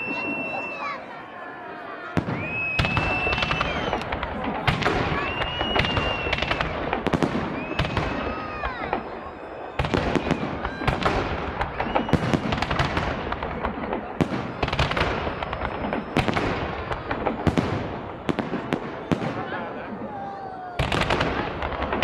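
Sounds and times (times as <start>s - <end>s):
fireworks bangs and crackles: 0.0s - 22.0s
fireworks high whistles: 0.0s - 22.0s.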